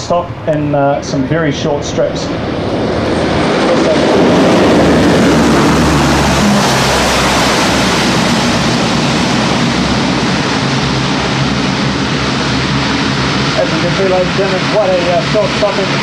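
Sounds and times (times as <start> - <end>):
aircraft propeller roar: 0.0 - 16.0.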